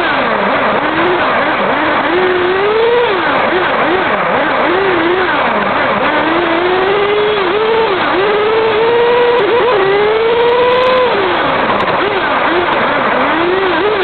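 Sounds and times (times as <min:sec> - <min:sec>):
model car motor revving: 0:00.0 - 0:14.0
road noise rush: 0:00.0 - 0:14.0.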